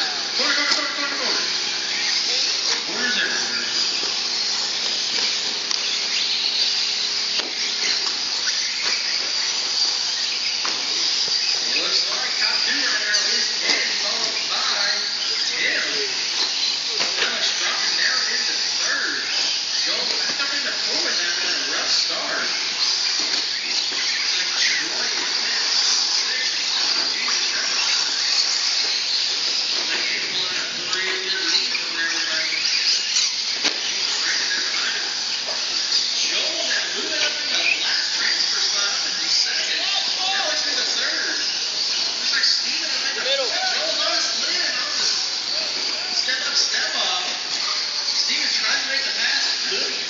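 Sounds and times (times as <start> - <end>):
rc trucks motors hissing: 0.0 - 50.0.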